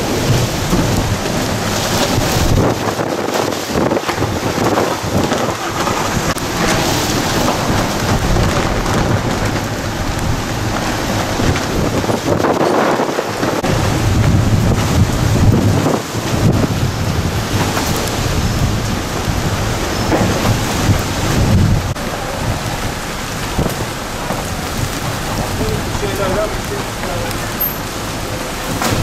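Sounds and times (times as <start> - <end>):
rain hissing: 0.0 - 29.0
storm wind gusting on microphone: 0.0 - 29.0.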